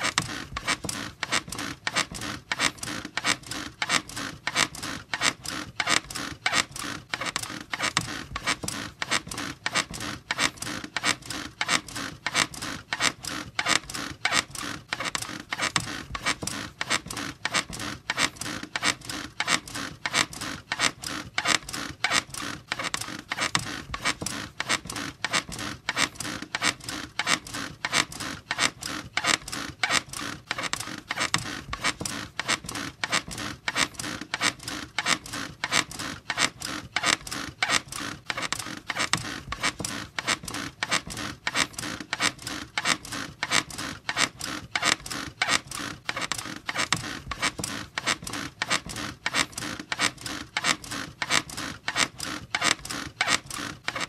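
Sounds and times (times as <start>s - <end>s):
squeaky bed creaking: 0.0s - 54.0s.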